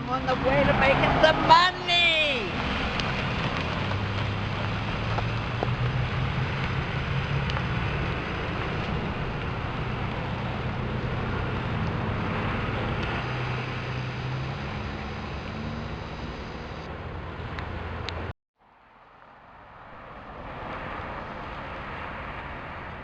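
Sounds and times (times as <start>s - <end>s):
road noise: 0.0s - 23.0s
truck engine hum: 0.0s - 23.0s.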